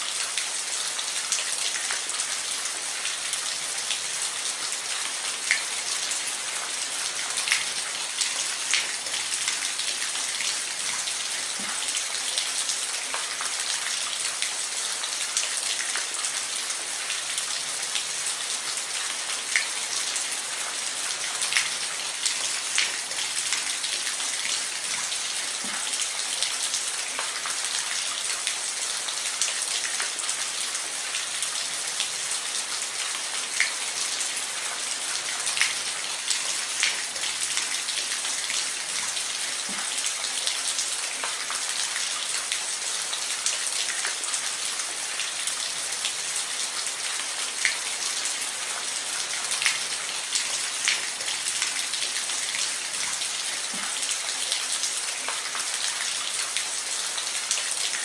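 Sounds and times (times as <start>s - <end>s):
rain on a roof: 0.0s - 58.0s.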